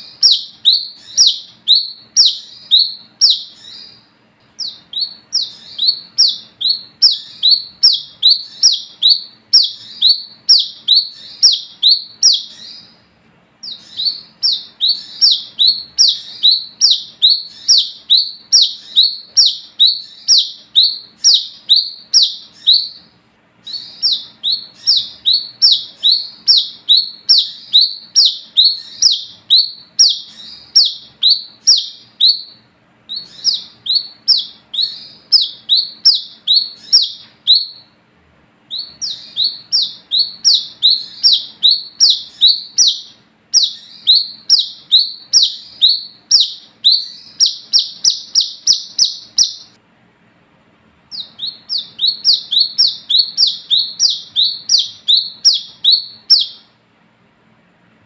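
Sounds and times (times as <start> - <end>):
bird sharp chirps: 0.0 - 13.0, 13.6 - 38.0, 38.7 - 49.8, 51.1 - 56.8.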